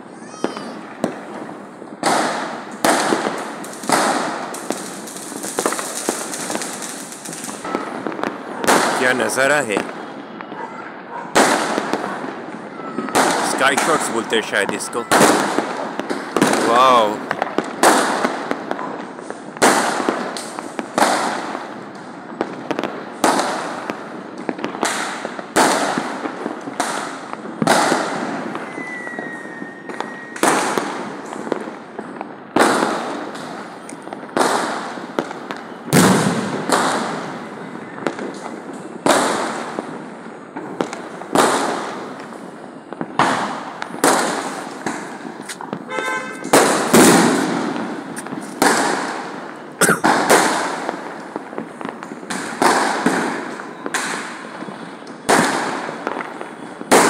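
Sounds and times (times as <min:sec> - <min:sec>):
fireworks bangs with echo: 0:00.0 - 0:57.0.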